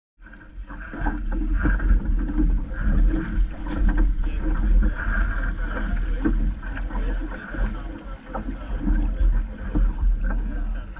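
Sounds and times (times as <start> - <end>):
water splashing along a hull: 0.2 - 10.9
wind buffeting microphone: 0.6 - 10.9.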